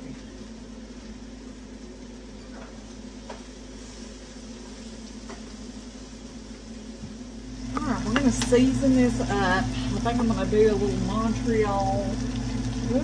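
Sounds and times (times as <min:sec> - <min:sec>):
range hood fan humming: 0:00.0 - 0:13.0.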